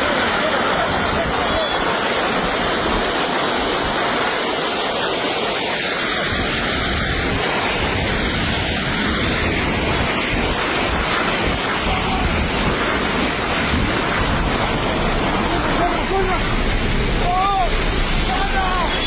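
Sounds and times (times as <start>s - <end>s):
loud steady rushing noise: 0.0s - 19.0s.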